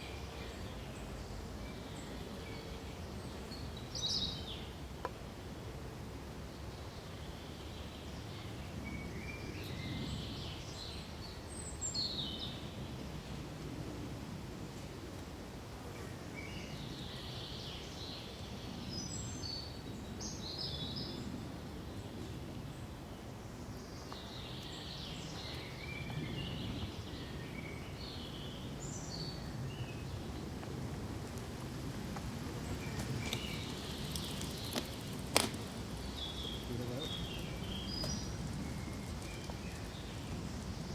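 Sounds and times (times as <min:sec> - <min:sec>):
small songbirds chirping: 0:00.0 - 0:05.7, 0:06.4 - 0:13.4, 0:16.0 - 0:31.2, 0:31.8 - 0:40.9
wind in pine trees: 0:00.0 - 0:40.9.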